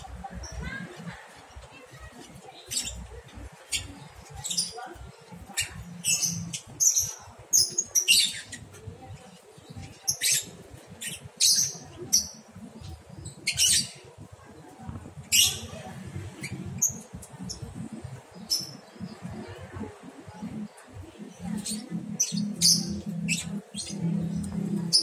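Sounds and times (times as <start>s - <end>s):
lovebirds chirping and squawking: 0.0s - 25.0s.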